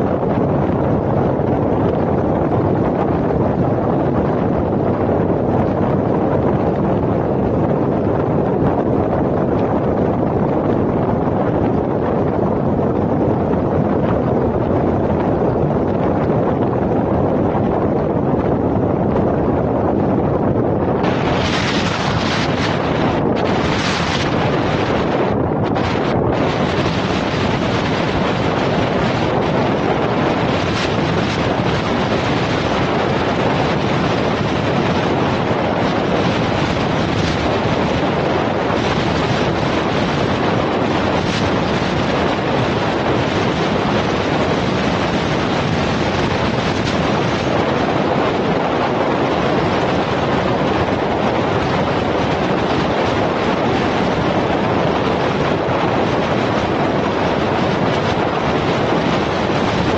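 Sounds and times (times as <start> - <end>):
loud wind rush: 0.0 - 59.9.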